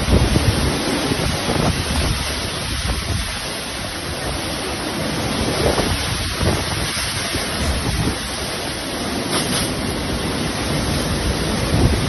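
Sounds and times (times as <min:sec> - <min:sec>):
heavy rain: 0:00.0 - 0:12.0
wind buffeting microphone: 0:00.0 - 0:12.0
wind gusting: 0:00.0 - 0:12.0.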